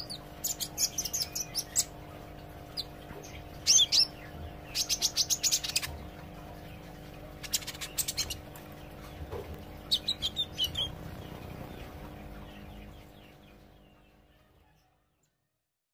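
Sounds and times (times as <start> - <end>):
bird chirping high: 0.0 - 6.0, 7.4 - 14.8.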